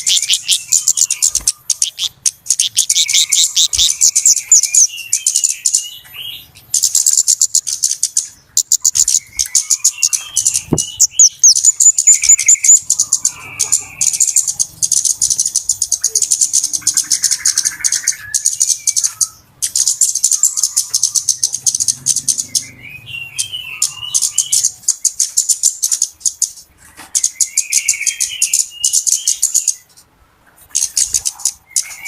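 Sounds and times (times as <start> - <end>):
high-pitched bird ticking calls: 0.0 - 30.1, 30.7 - 32.0
lower bird chirps: 0.0 - 32.0.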